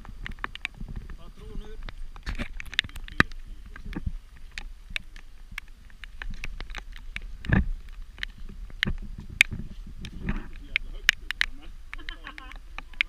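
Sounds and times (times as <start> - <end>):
footsteps on gravel: 0.0 - 13.0.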